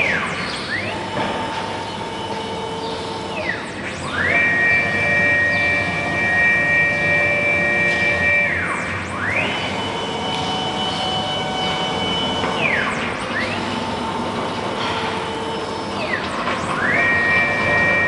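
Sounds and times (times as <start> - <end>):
drive motors whining: 0.0 - 18.0
steady machine hum: 0.0 - 18.0.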